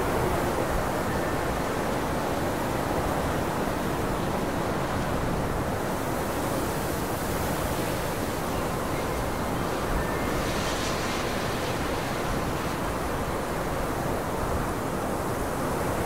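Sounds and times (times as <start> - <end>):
steady rushing noise: 0.0 - 15.8.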